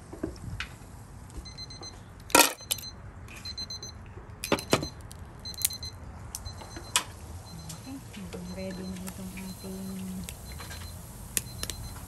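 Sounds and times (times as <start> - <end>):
electronic alarm beeps: 1.4 - 12.0.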